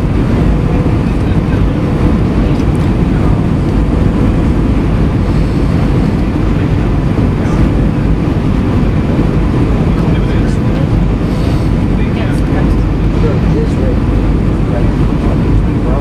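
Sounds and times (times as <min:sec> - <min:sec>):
aircraft cabin engine rush: 0:00.0 - 0:16.0.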